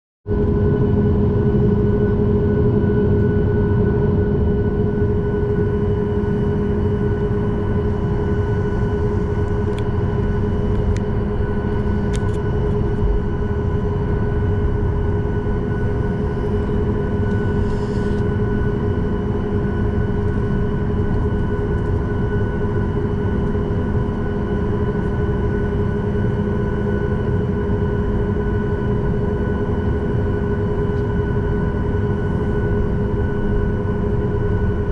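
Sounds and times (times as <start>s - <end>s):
aircraft engines droning: 0.3s - 34.9s.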